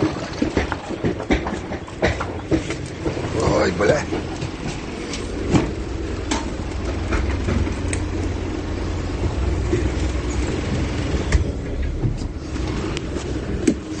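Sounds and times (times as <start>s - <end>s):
car cabin rumble: 0.4s - 14.0s.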